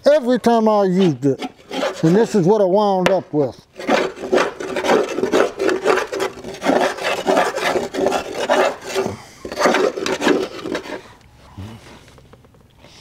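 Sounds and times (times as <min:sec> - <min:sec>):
metal bar scraping dried mud: 0:00.5 - 0:11.2.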